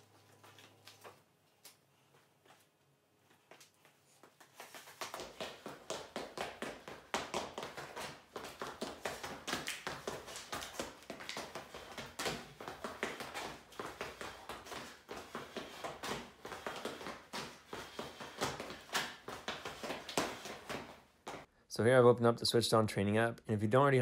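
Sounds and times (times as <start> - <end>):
sneakers tapping and scuffing on floor: 2.1 - 21.5.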